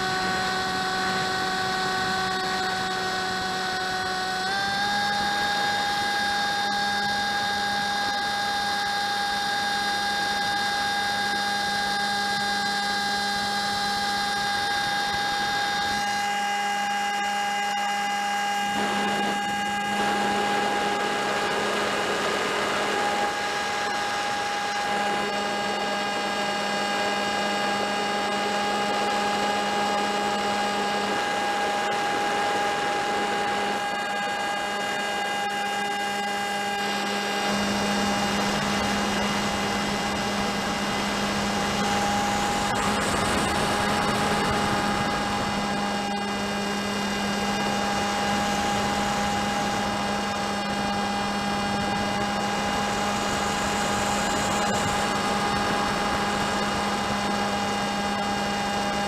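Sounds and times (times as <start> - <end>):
model plane motor whining: 0.0 - 59.0.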